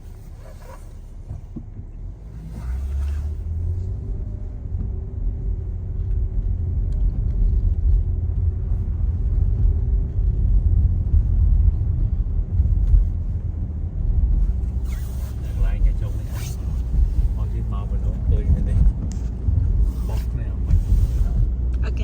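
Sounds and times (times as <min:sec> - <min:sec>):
car road rumble from inside cabin: 0:00.0 - 0:22.0.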